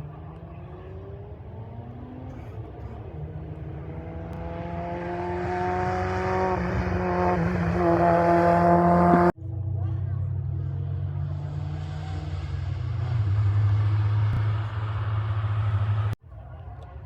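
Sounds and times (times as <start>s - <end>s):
race car engine accelerating: 0.0s - 16.2s.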